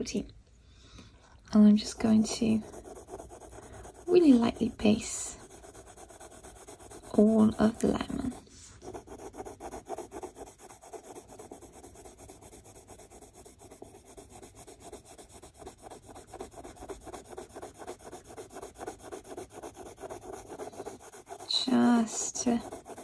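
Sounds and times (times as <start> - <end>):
coloured pencil on paper: 1.5 - 23.0.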